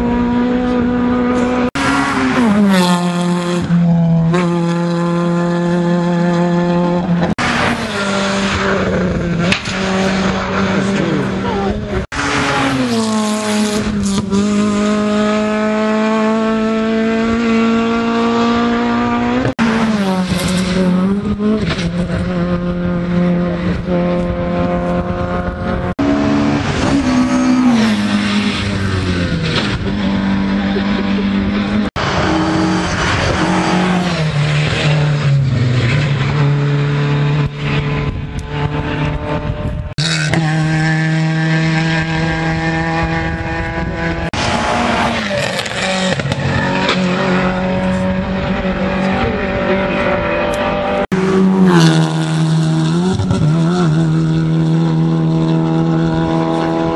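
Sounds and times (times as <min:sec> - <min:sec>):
rally car engines at full throttle: 0:00.0 - 0:56.9.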